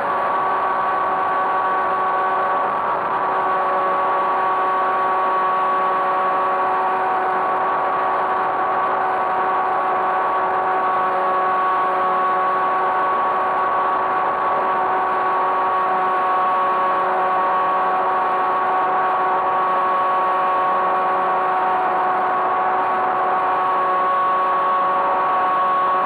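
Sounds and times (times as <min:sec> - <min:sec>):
model airplane motor whine: 0:00.0 - 0:26.0.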